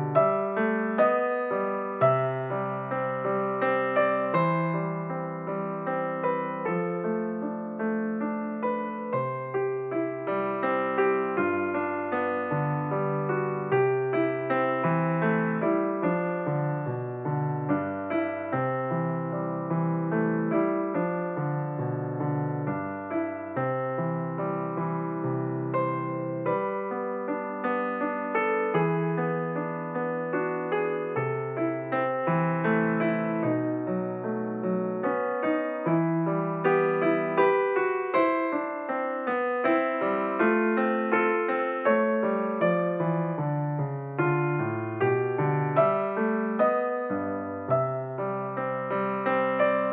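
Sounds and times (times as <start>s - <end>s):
gentle electric piano melody: 0.0s - 49.9s.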